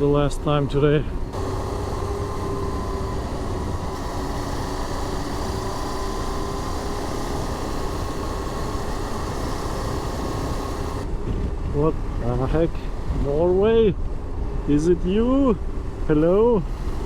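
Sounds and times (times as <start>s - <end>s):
motorcycle engine drone: 0.0s - 17.0s
wind noise: 1.0s - 16.0s.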